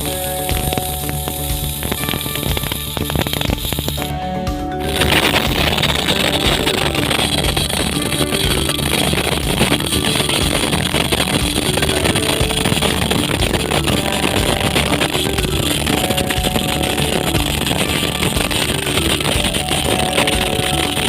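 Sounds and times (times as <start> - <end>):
rock music with held notes: 0.0 - 21.0.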